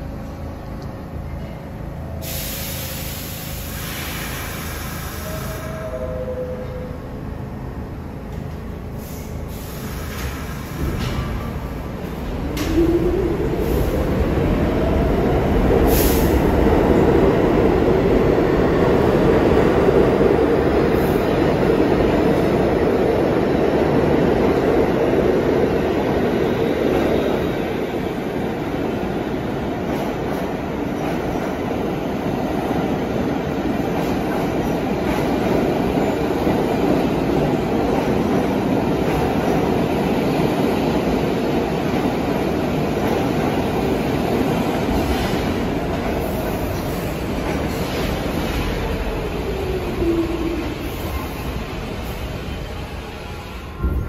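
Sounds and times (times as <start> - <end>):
subway train wheels rumbling: 0.0 - 54.0.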